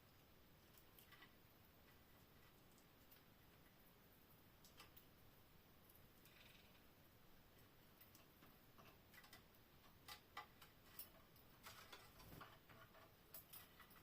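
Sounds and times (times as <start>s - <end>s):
faint clicks and taps: 0.0s - 5.2s, 7.5s - 14.0s.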